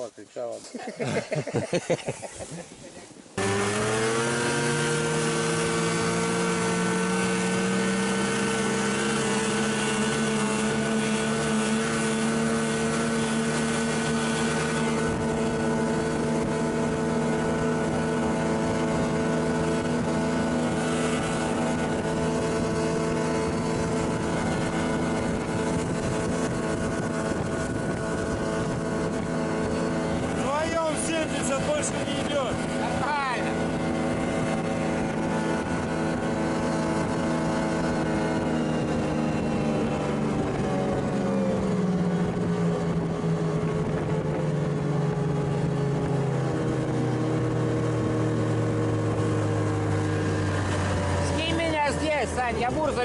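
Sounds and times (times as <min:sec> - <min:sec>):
snowmobile engine: 0:00.0 - 0:53.0.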